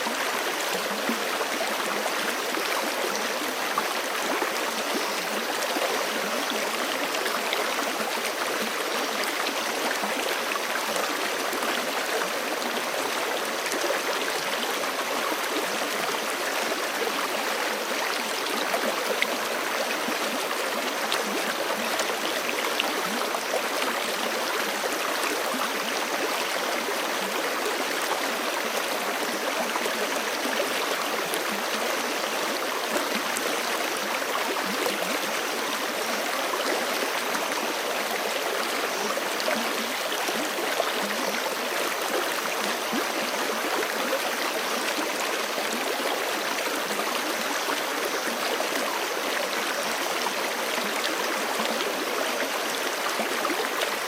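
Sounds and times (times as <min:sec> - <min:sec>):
creek running over rocks: 0:00.0 - 0:54.0.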